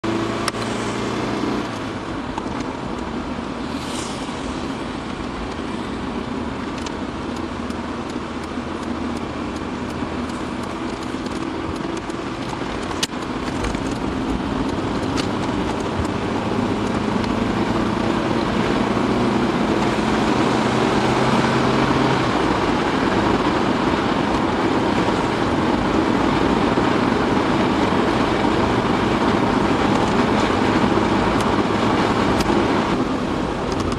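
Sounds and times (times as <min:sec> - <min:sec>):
tyre and engine road noise: 0:00.0 - 0:33.9.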